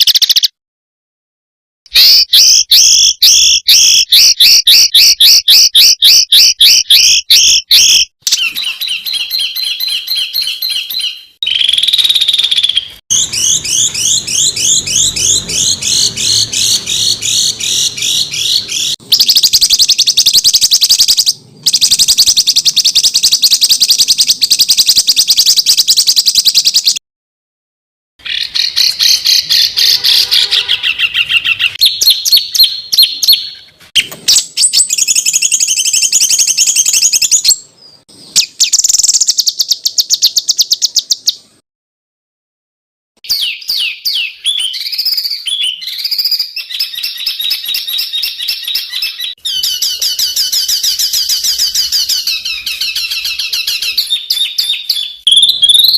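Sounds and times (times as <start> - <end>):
songbird chirping: 1.9 - 27.0, 28.2 - 41.6, 43.2 - 55.9.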